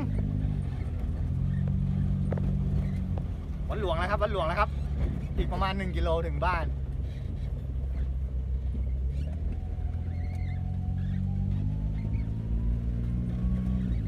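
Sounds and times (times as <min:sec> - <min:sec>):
road rumble: 0:00.0 - 0:14.0
vehicle engine running: 0:00.0 - 0:14.0.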